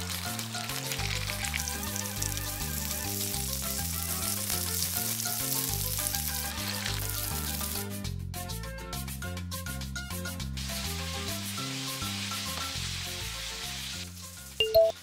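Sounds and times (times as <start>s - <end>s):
chicken sizzling in hot oil: 0.0s - 8.1s, 10.1s - 15.0s
background music with bassline: 0.0s - 15.0s.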